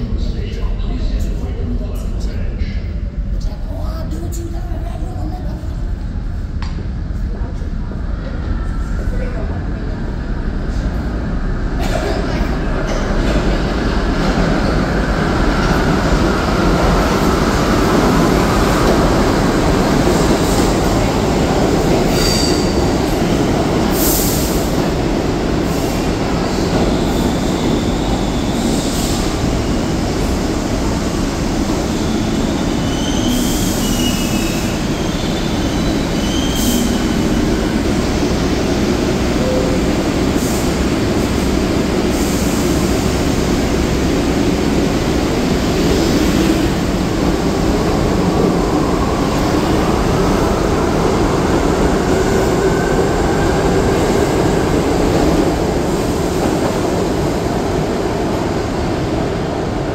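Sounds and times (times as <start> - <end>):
subway train wheels rumbling: 0.0 - 59.9.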